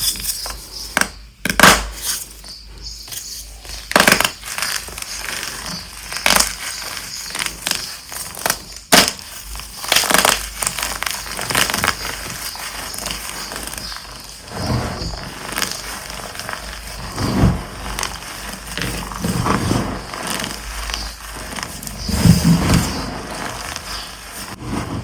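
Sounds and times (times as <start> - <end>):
chalk blocks crunching: 0.0 - 25.0
crumbly crackling: 3.6 - 25.0.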